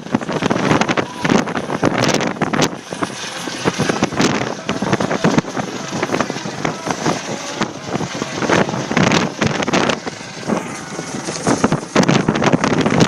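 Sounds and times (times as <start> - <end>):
helicopter rotor hovering: 0.0 - 13.0
wind buffeting microphone: 0.0 - 13.0.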